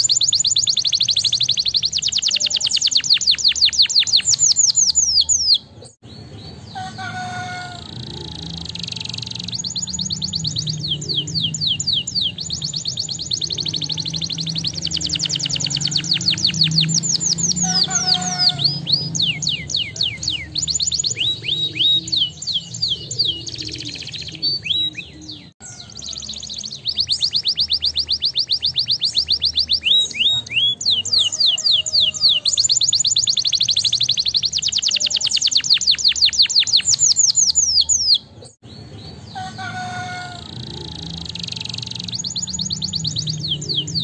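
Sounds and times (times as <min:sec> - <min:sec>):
canary singing trills: 0:00.0 - 0:44.0.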